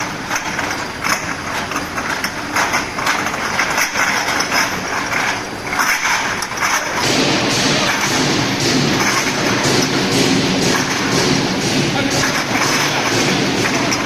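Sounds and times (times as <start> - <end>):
bottle washing machine running: 0.0 - 14.0
clattering and knocking: 0.0 - 14.0.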